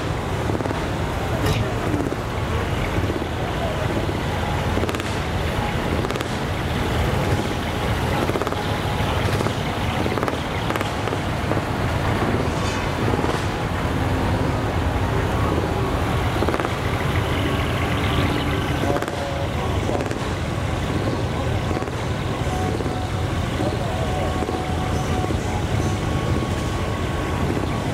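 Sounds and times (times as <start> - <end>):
faint voices: 0.0 - 27.9
truck diesel engines idling: 0.0 - 27.9.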